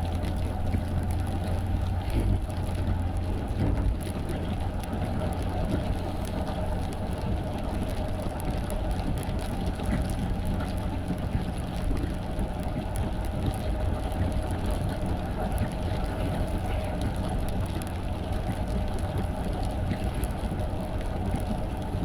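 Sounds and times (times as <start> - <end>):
car engine and tyres rumbling: 0.0 - 22.0
faint ticks of rain: 0.0 - 22.0.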